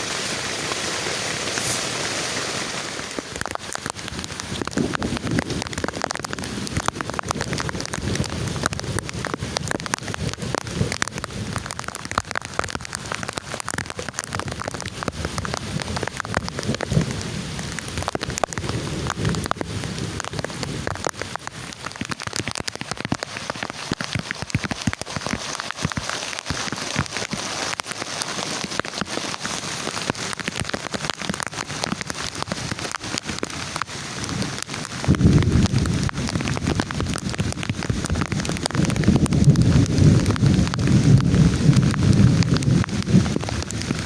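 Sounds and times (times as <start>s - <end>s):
heavy rain patter: 0.0s - 44.0s.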